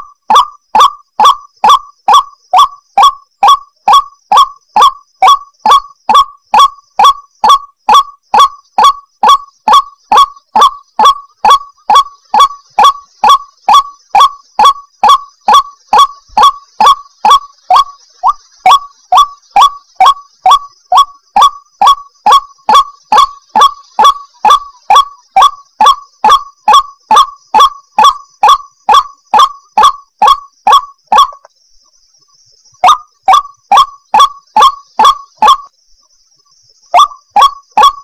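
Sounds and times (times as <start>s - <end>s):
waterhen calling sharp notes: 0.0s - 31.5s, 32.8s - 35.7s, 37.0s - 38.0s.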